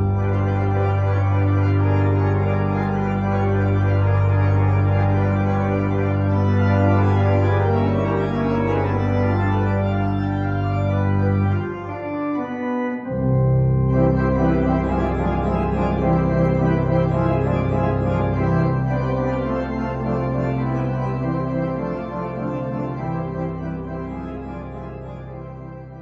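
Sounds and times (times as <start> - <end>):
organ playing sustained chords: 0.0 - 26.0.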